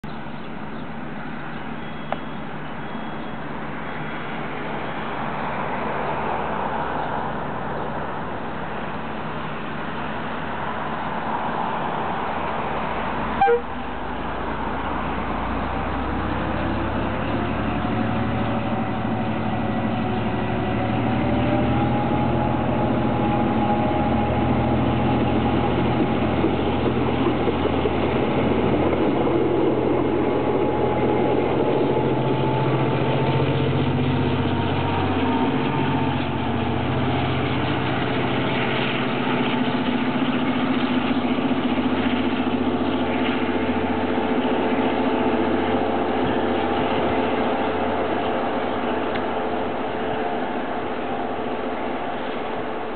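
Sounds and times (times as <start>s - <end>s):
diesel locomotive engine revving: 1.0s - 52.9s.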